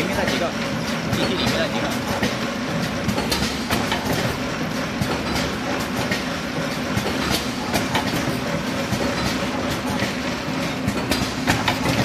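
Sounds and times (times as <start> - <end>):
machine clicks and clatter: 0.0 - 12.0
packing machine humming: 0.0 - 12.0.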